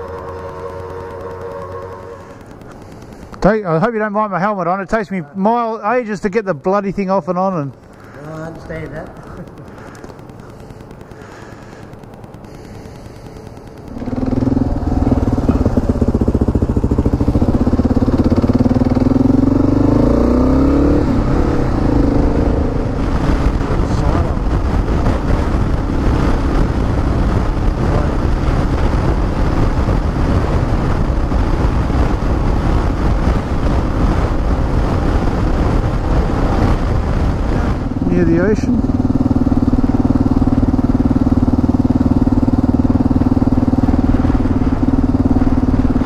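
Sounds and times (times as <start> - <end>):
motorcycle engine accelerating: 0.0 - 4.3, 5.9 - 46.0
wind on microphone: 7.9 - 46.0.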